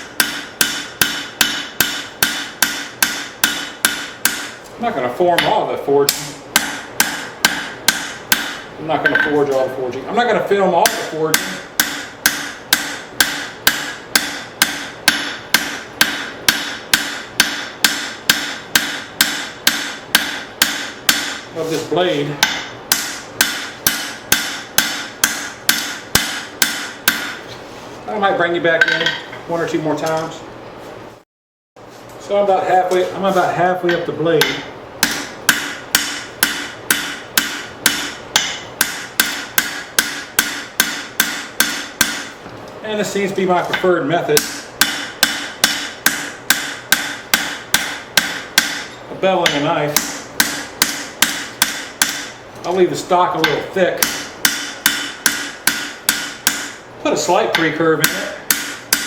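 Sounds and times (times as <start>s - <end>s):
hammer striking steel on anvil: 0.0s - 4.6s, 5.3s - 9.6s, 10.8s - 21.8s, 22.4s - 27.4s, 28.8s - 29.3s, 33.9s - 42.4s, 43.7s - 52.4s, 53.4s - 56.9s, 57.5s - 59.0s.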